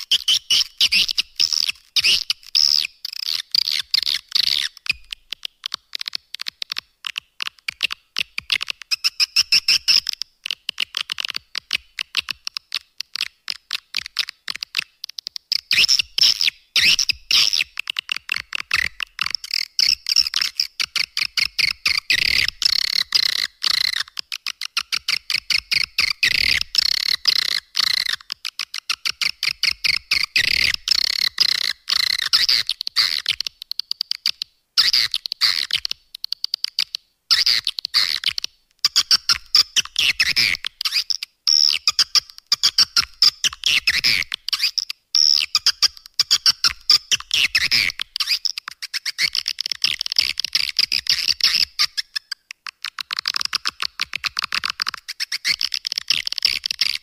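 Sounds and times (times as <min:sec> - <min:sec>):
swiftlet clicks and chirps: 0:00.0 - 0:57.0.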